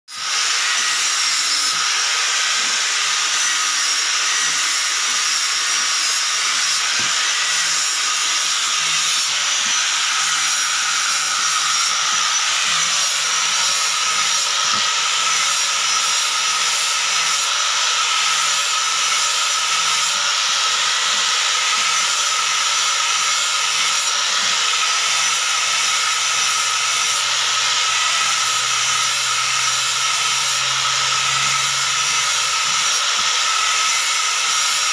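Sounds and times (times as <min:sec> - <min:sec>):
angle grinder sanding wood: 0:00.1 - 0:34.9.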